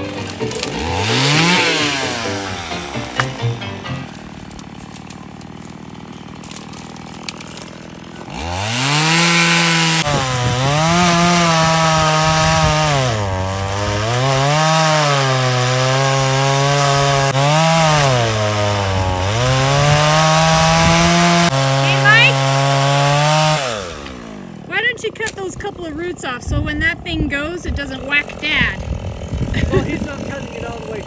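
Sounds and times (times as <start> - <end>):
chainsaw revving and cutting wood: 0.0 - 31.0.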